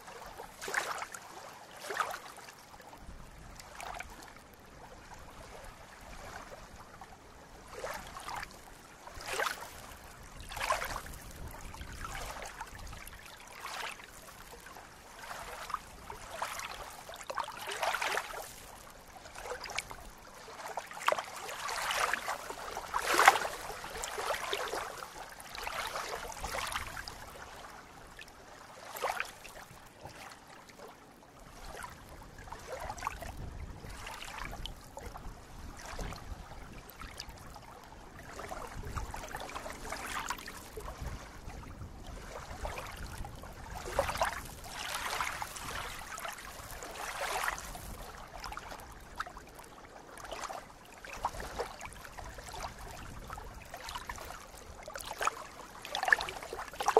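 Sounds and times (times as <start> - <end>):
water lapping at shore: 0.0 - 56.9.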